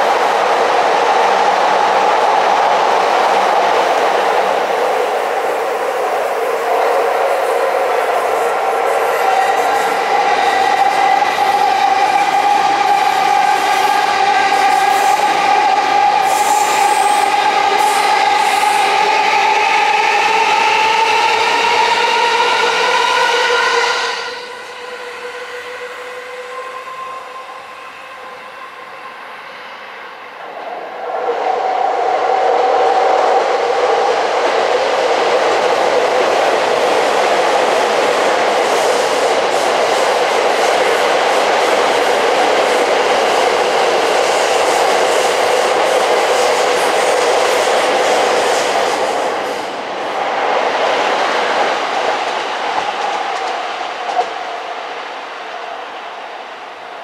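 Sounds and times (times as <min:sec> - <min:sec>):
electric train passing: 0:00.0 - 0:57.0.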